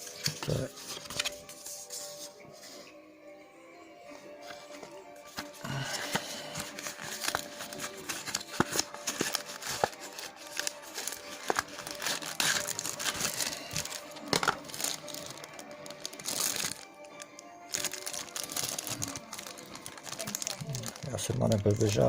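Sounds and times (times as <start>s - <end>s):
packaging rustling and crinkling: 0.0s - 1.8s, 4.4s - 22.0s
faint background music: 0.0s - 22.0s.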